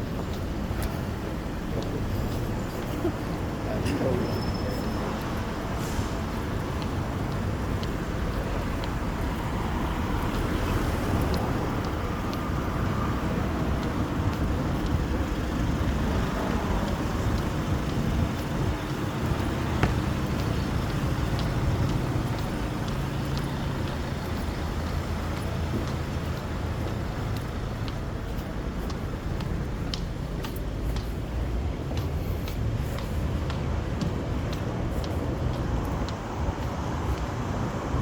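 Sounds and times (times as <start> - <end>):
vehicle low rumble: 0.0 - 38.0.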